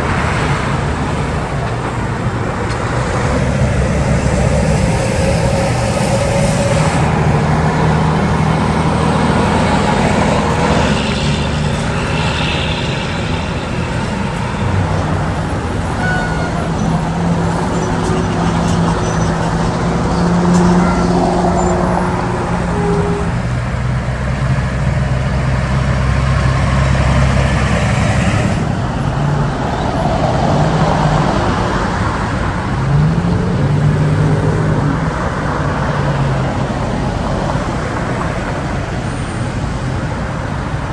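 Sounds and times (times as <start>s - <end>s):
diesel truck engines: 0.0s - 40.9s
road traffic noise: 0.0s - 40.9s
truck accelerating: 0.0s - 40.9s.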